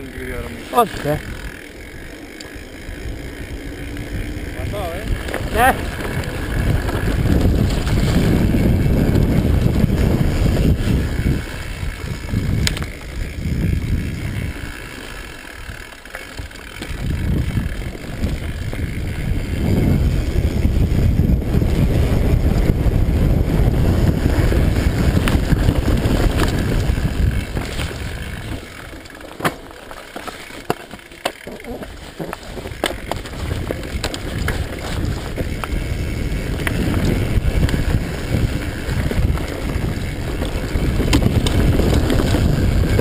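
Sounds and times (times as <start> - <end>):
bike clicks and rattles: 0.0 - 43.0
bike tyres on dirt: 0.0 - 43.0
wind rushing on microphone: 3.0 - 14.7, 16.9 - 29.0, 32.0 - 43.0.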